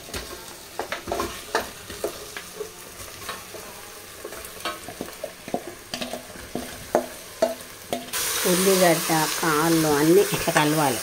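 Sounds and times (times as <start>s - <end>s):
onions sizzling: 0.0s - 11.0s.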